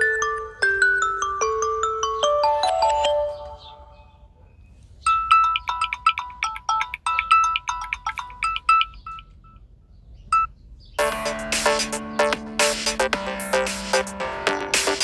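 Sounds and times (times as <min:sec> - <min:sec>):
phone ringtone melody: 0:00.0 - 0:04.2, 0:05.1 - 0:09.3, 0:10.4 - 0:15.0.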